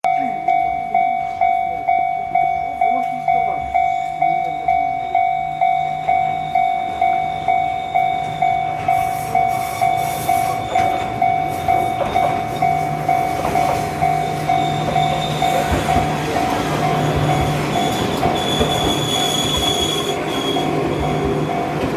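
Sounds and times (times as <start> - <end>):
level crossing bell ringing: 0.0 - 18.4
electric train passing: 0.5 - 21.9.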